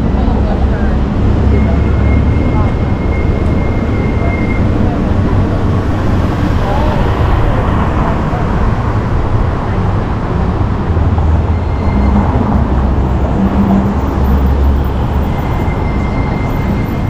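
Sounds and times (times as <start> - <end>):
road noise rumble: 0.0 - 17.0.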